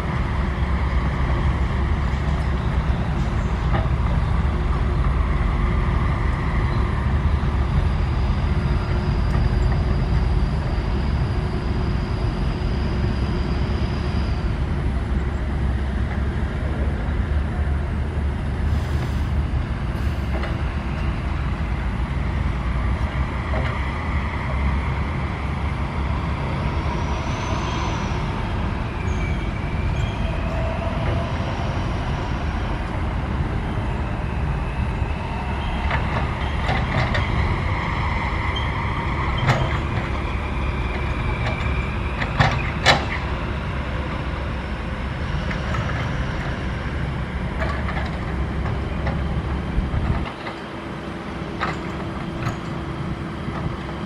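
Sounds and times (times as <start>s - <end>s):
faint high whines: 0.0s - 47.4s
excavator diesel engine rumbling: 0.0s - 54.0s.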